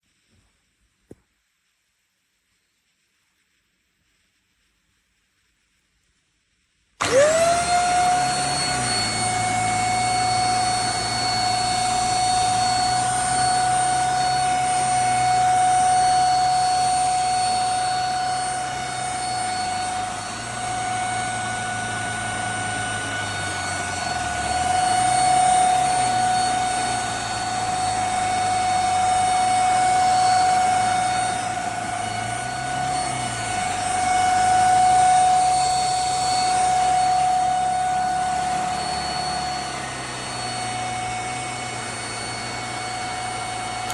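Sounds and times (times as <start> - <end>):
vacuum cleaner motor whine: 7.0 - 43.9.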